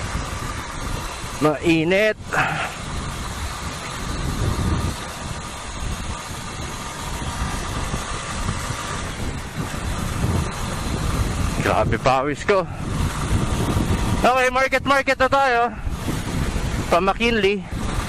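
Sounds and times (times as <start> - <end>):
motorcycle engine idling: 0.0 - 18.0
rumble of traffic engines: 0.0 - 18.0.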